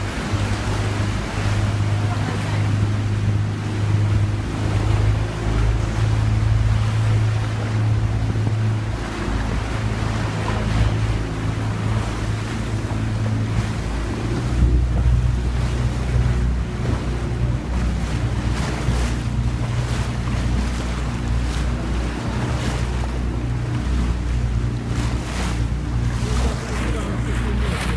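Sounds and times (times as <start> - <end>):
boat engine droning: 0.0 - 27.9
water rushing past hull: 0.0 - 27.9
wind buffeting microphone: 0.0 - 27.9.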